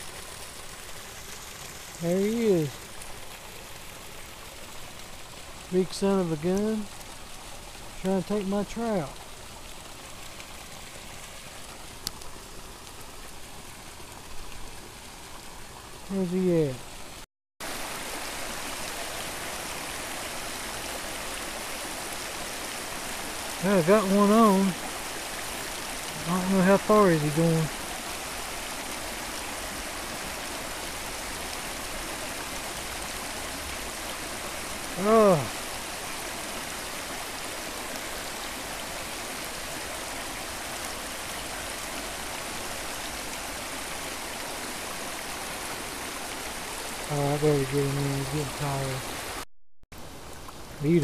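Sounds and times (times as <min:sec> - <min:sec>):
stream rushing over stones: 0:00.0 - 0:51.0.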